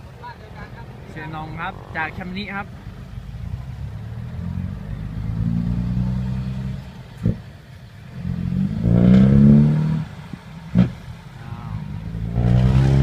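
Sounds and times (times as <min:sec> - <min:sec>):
diesel truck engine revving: 0:01.0 - 0:13.0.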